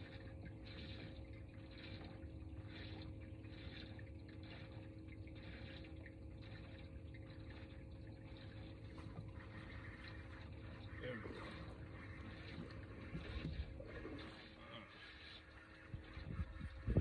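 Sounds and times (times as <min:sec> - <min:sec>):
small waves lapping against hull: 0:00.0 - 0:17.0
steady low hum: 0:00.0 - 0:17.0.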